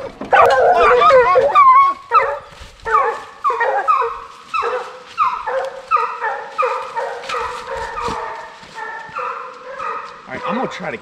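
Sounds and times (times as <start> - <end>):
hounds baying: 0.2 - 11.0.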